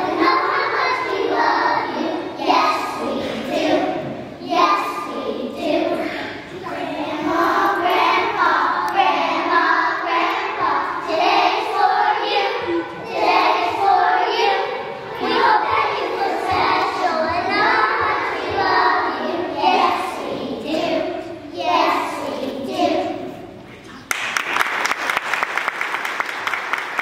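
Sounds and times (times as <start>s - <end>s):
children's choir singing: 0.0s - 23.8s.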